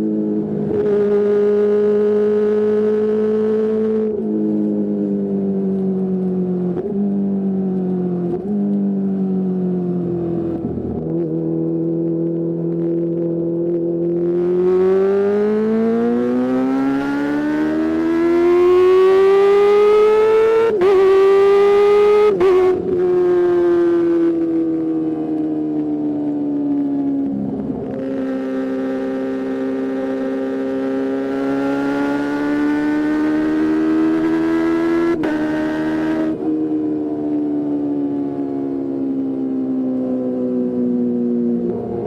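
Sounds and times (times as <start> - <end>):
motorcycle engine revving: 0.0 - 26.0, 26.6 - 37.4, 40.0 - 42.0.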